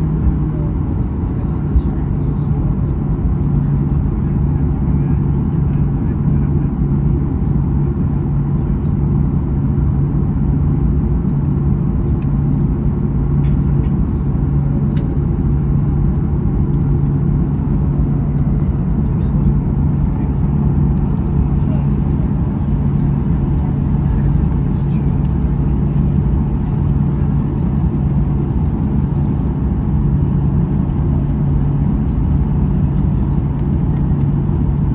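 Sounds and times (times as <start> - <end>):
airplane cabin engine rumble: 0.0 - 34.9
constant low hum: 0.0 - 34.9.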